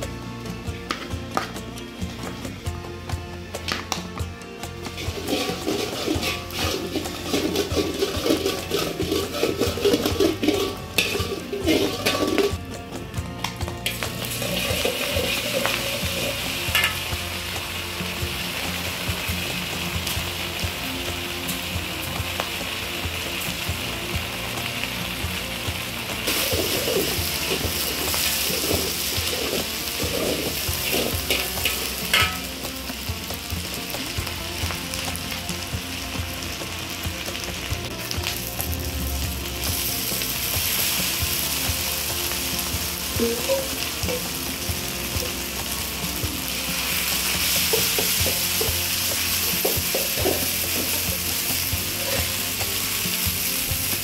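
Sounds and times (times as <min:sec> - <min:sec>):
food sizzling in oil: 0:03.6 - 0:54.0.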